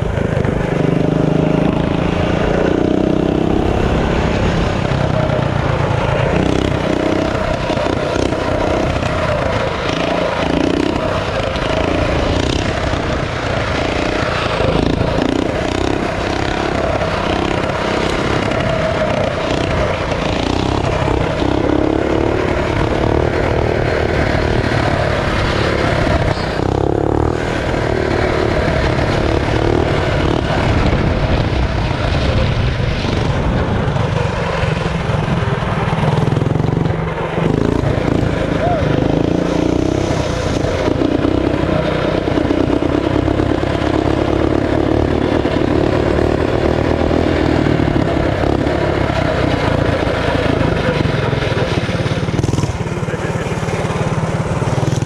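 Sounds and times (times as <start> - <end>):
minibike engine running loud: 0.0 - 55.0.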